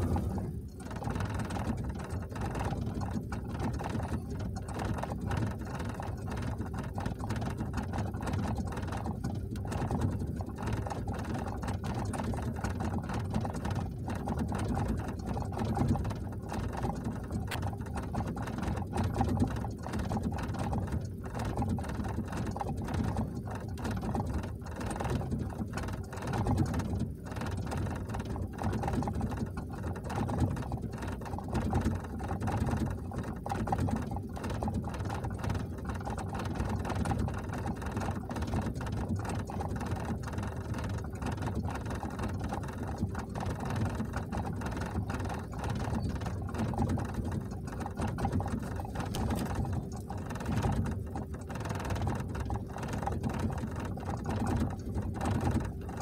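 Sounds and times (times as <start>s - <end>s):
car engine idling unevenly: 0.0s - 56.0s.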